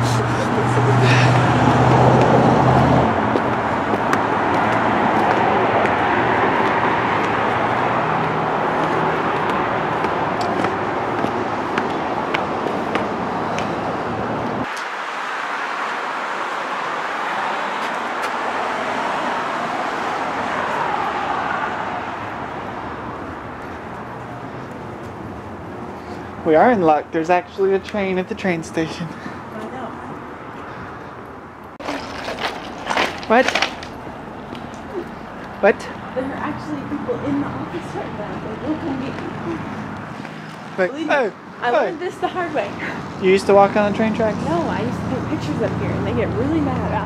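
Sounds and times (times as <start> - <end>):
road traffic hiss: 0.0 - 46.7.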